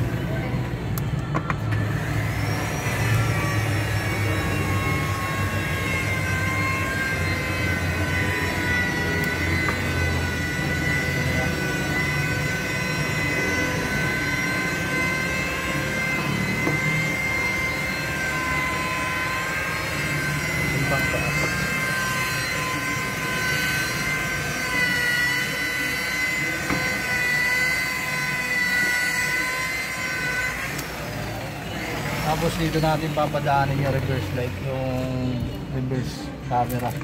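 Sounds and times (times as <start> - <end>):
motor whine: 0.0 - 37.0.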